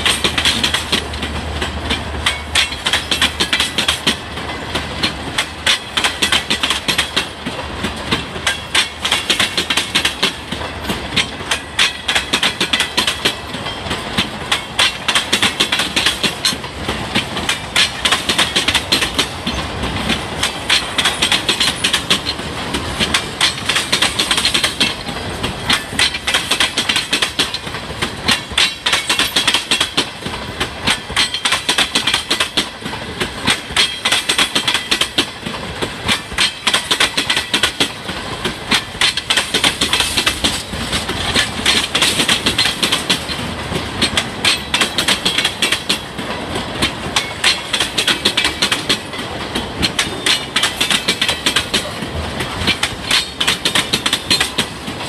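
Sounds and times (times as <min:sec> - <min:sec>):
train rolling rumble: 0:00.0 - 0:55.0
train wheels clicking over rail joints: 0:00.0 - 0:55.0.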